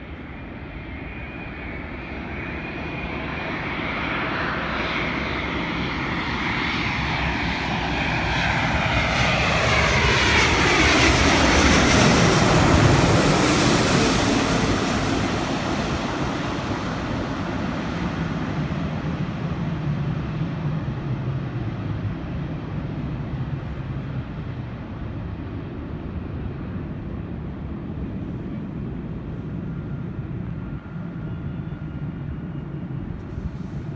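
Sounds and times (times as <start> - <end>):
jet airliner passing overhead: 0.0 - 33.9.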